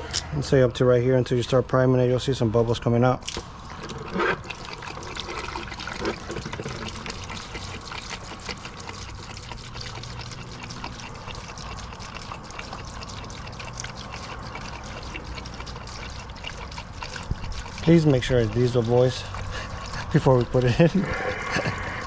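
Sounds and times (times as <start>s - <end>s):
fuel pouring trickle: 0.0s - 22.0s.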